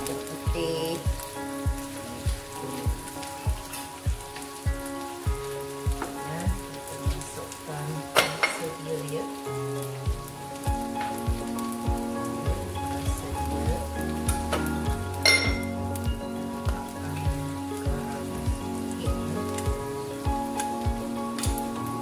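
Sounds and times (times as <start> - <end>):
background music with steady beat: 0.0 - 22.0
food sizzling in a wok: 0.0 - 22.0.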